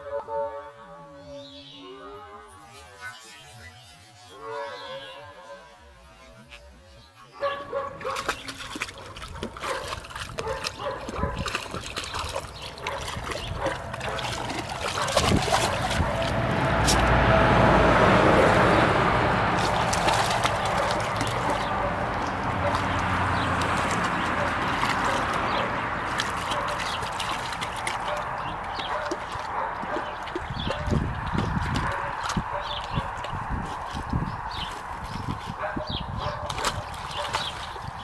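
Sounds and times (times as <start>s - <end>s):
puppy splashing water: 7.4s - 38.0s.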